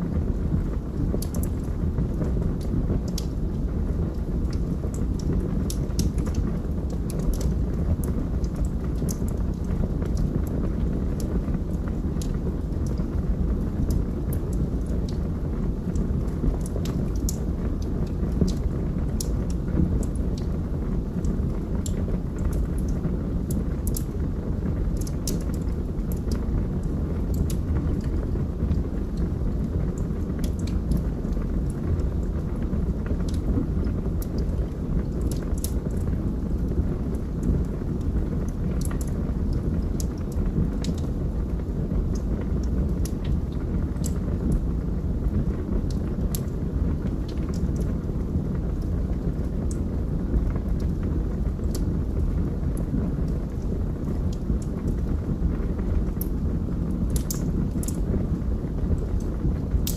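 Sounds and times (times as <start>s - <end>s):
burning logs crackling and popping: 0.0s - 59.9s
low roar of flames: 0.0s - 59.9s.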